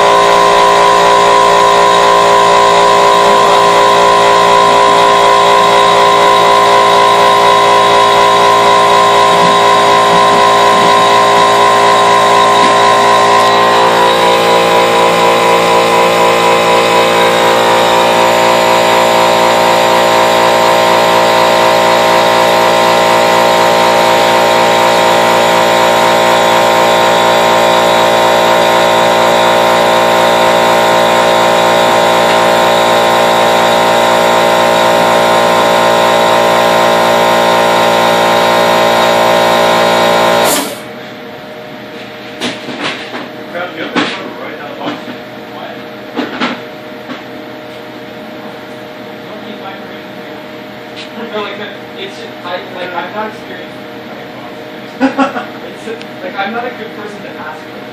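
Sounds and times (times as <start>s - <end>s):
mill motors whining: 0.0s - 57.9s.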